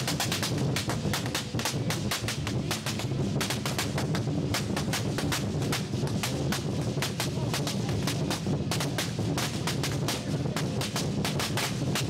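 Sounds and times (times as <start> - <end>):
big drum beating: 0.0 - 12.0
fast sharp cymbal clashes: 0.0 - 12.0.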